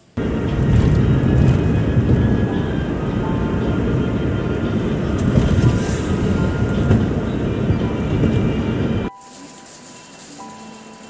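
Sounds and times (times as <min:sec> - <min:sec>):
car road noise from inside: 0:00.2 - 0:09.1.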